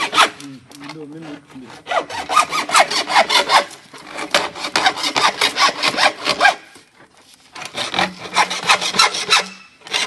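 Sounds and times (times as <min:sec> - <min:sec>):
hand saw cutting plastic pipe: 0:00.0 - 0:06.9, 0:07.5 - 0:10.0.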